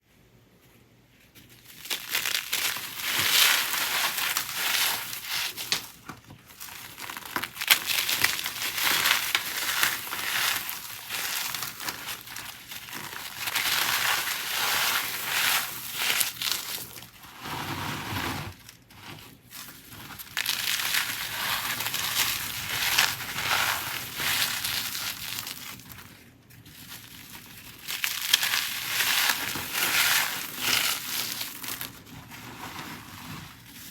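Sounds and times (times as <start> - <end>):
cornstarch blocks crunching: 1.4 - 33.9.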